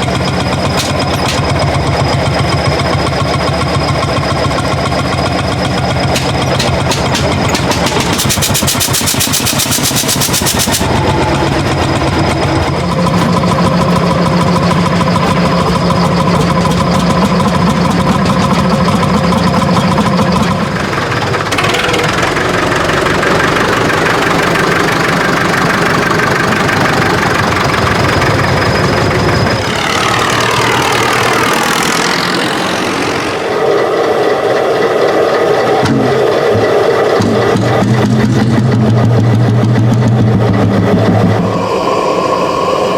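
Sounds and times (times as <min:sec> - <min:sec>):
old tractor engine running: 0:00.0 - 0:42.9.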